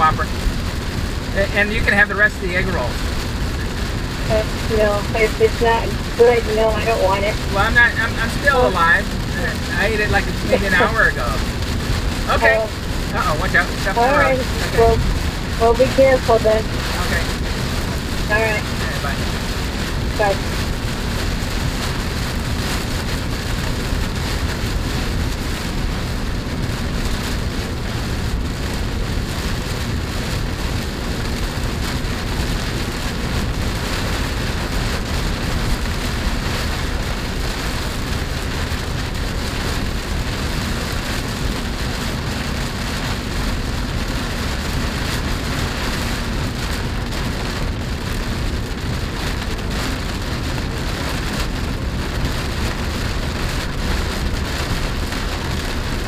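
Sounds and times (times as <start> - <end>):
faint road and engine hum: 0.0 - 56.0
rain on car roof: 0.0 - 56.0.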